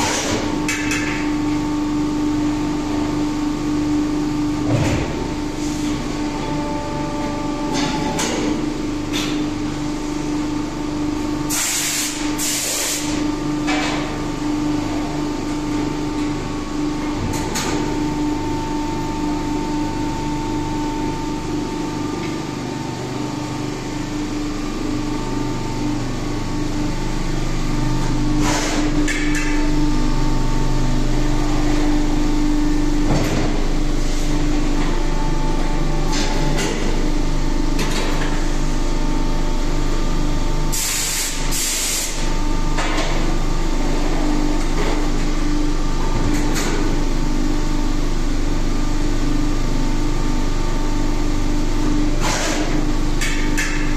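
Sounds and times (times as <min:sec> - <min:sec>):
die-casting machine humming: 0:00.0 - 0:53.9.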